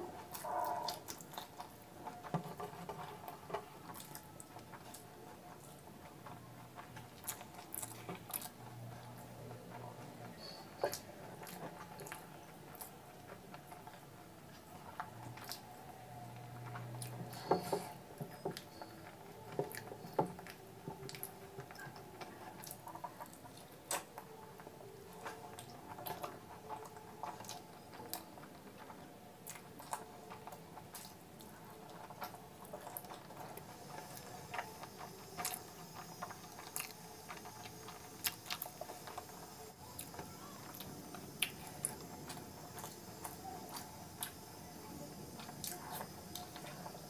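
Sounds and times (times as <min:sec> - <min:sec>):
soft food squishes: 0:00.0 - 0:47.0.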